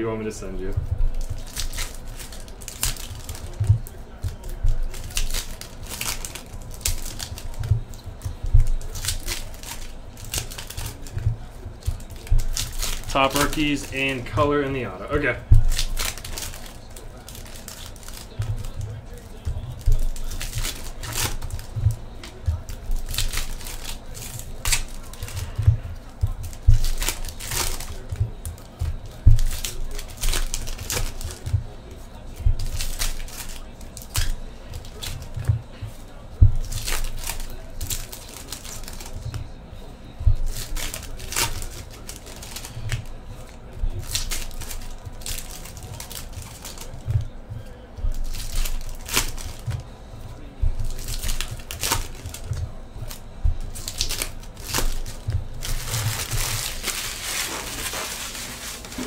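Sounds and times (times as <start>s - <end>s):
foil wrappers crinkling and tearing: 0.0s - 59.0s.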